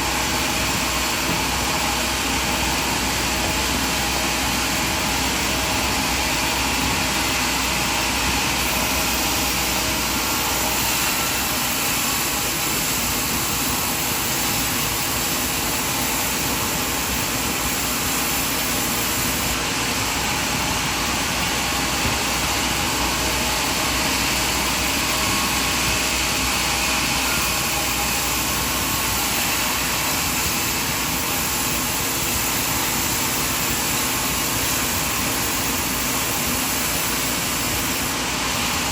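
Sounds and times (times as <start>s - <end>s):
sawmill machinery whirring: 0.0s - 38.9s.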